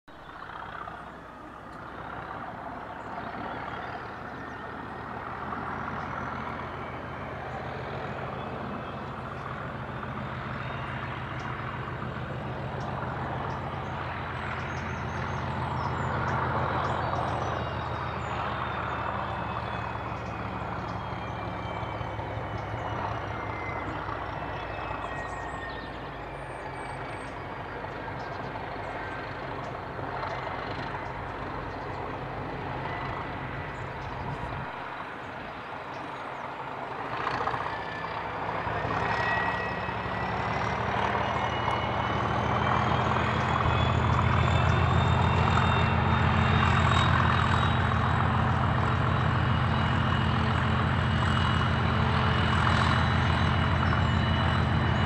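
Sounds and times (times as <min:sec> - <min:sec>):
diesel engine running: 0:00.1 - 0:55.0.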